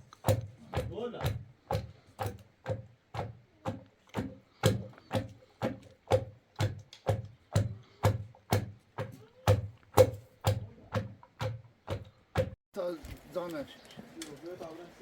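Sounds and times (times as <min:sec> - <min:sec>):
hand tool striking knocks: 0:00.2 - 0:12.6.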